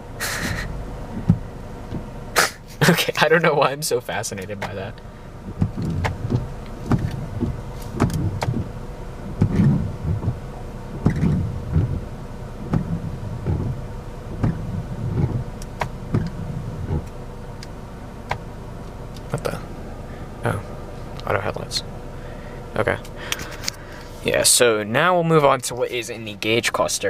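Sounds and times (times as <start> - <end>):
windshield wipers sweeping: 0.0 - 27.0.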